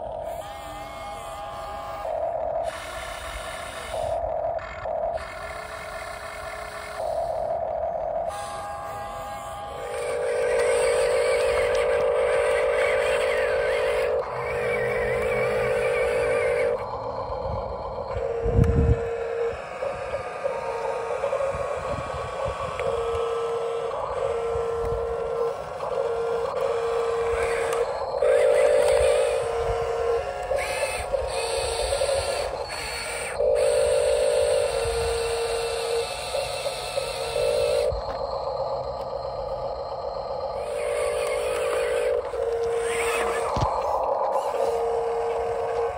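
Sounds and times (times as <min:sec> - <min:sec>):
electric motors and gears whining: 0:00.0 - 0:45.9.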